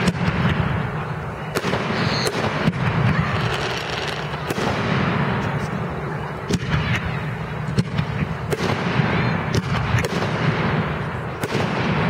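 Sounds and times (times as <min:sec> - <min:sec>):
fireworks cracks and bangs: 0:00.0 - 0:12.0
fireworks rumbling: 0:00.0 - 0:12.0.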